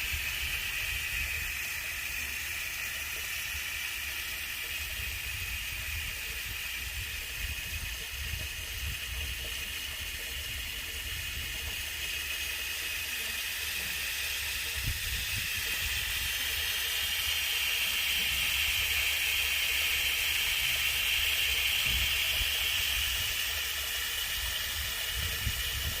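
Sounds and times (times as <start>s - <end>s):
water splashing in small waterfall: 0.0s - 26.0s.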